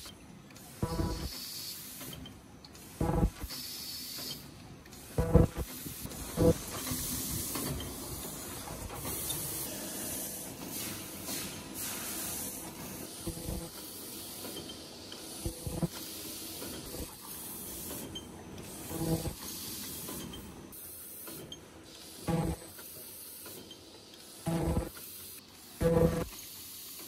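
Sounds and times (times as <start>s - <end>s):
machine hissing: 0.7s - 27.0s.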